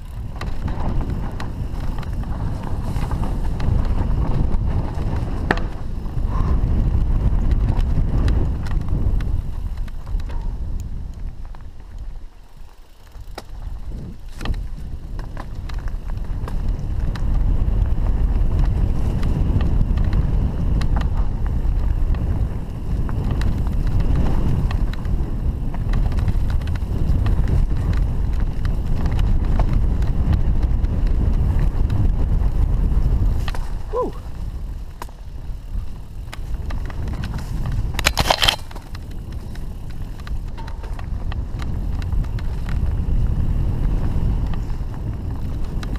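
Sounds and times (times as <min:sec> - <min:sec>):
bike clicks and knocks: 0:00.0 - 0:45.9
tyres rumbling on dirt trail: 0:00.0 - 0:45.9
wind on microphone: 0:00.0 - 0:45.9.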